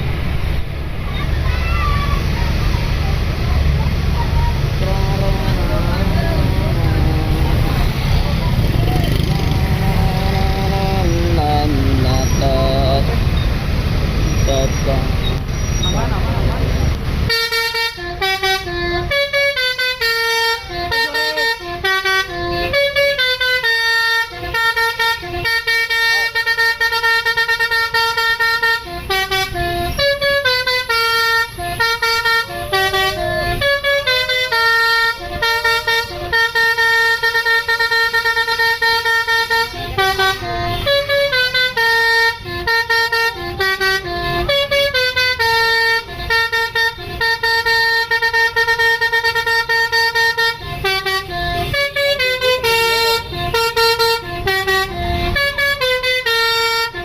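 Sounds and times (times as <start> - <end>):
bus horn playing a tune: 1.5 - 16.2, 17.2 - 57.0.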